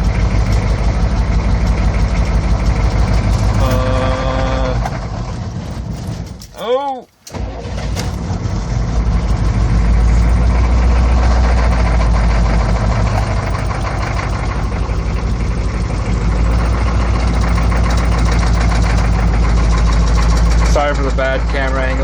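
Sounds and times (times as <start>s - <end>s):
diesel engine cold starting: 0.0s - 22.0s.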